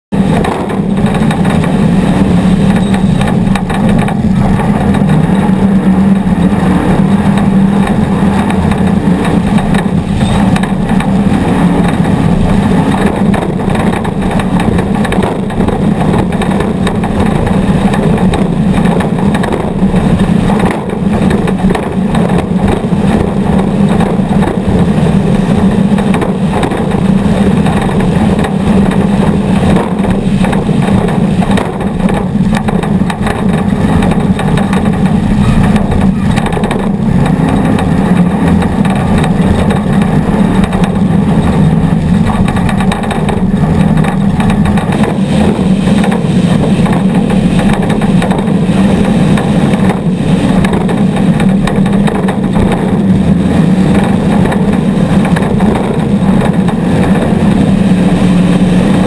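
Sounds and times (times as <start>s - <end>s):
race vehicle engine running hard: 0.0s - 59.0s
wind: 0.1s - 59.0s
knocks from rough ground: 0.2s - 59.0s.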